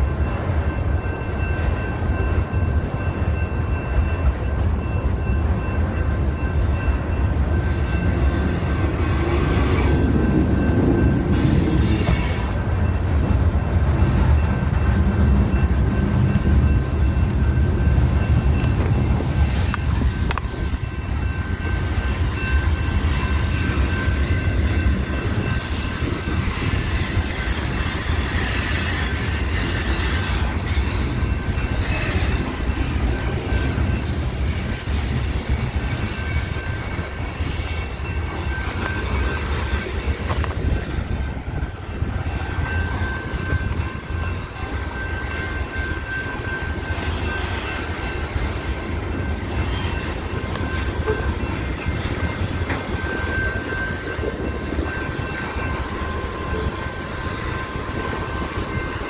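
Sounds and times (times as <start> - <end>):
train rumbling past: 0.0 - 59.0
wheels squealing on rails: 0.0 - 59.0.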